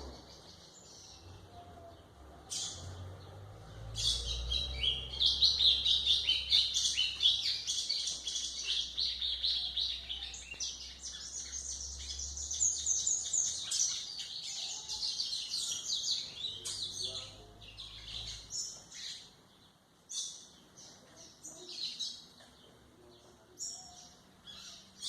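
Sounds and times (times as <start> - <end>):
bird twittering song: 0.0 - 25.0.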